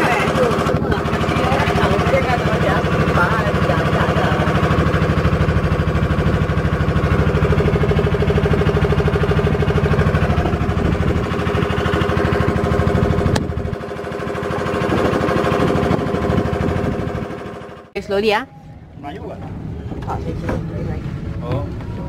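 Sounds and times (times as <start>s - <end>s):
boat engine chugging: 0.0s - 22.0s.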